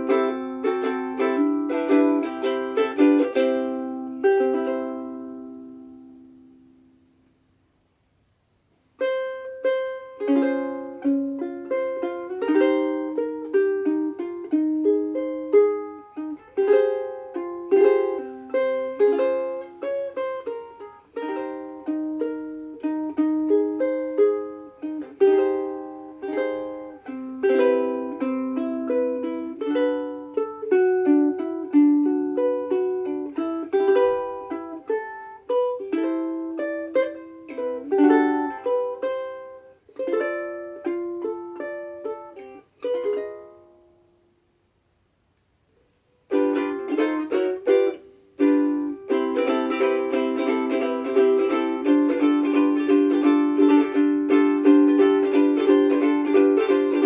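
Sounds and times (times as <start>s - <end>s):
ukulele plucked melody: 0.0s - 7.2s, 9.0s - 44.4s, 45.8s - 57.0s.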